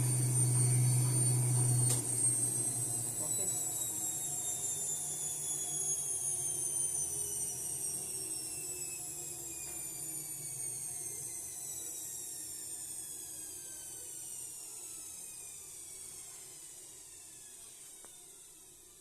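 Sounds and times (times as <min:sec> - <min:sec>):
washing machine spinning down: 0:00.0 - 0:18.5.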